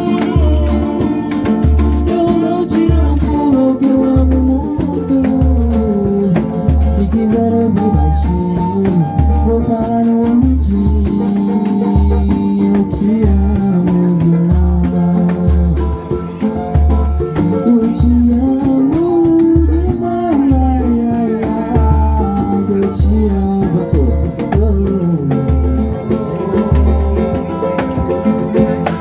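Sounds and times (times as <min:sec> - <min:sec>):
low drum beat: 0:00.0 - 0:29.0
plucked strings: 0:00.0 - 0:29.0
shaker: 0:00.0 - 0:29.0.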